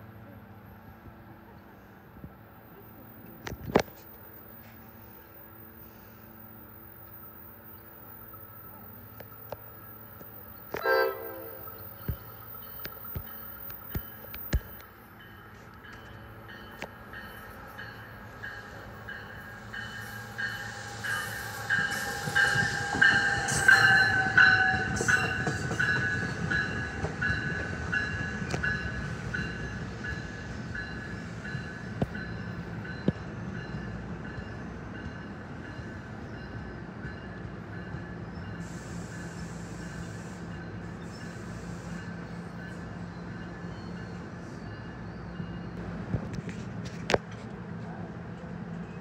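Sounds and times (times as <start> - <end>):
train passing: 0.0 - 49.0.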